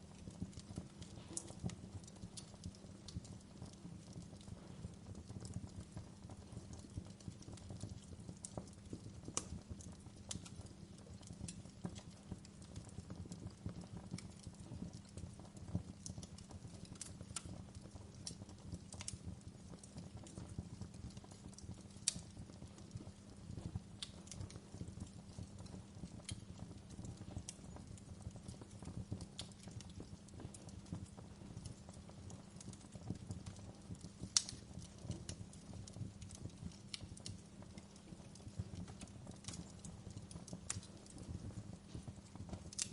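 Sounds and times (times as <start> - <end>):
flame rumble: 0.0 - 42.9
wood crackling and popping: 0.0 - 42.9.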